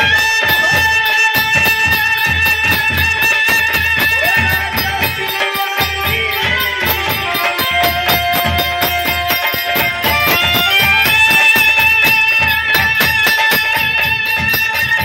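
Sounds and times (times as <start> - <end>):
folk melody: 0.0 - 15.0
jingling percussion: 0.0 - 15.0
steady drum beat: 0.0 - 15.0.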